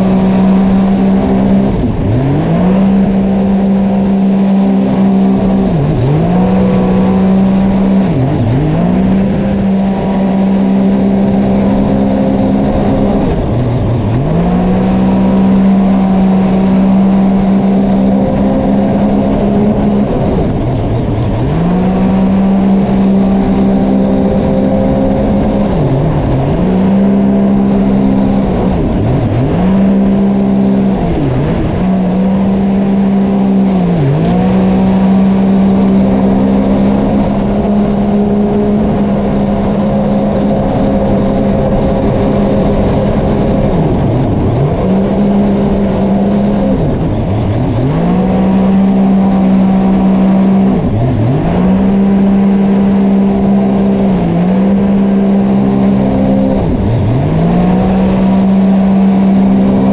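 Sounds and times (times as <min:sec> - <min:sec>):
watercraft engine revving: 0:00.0 - 0:59.9.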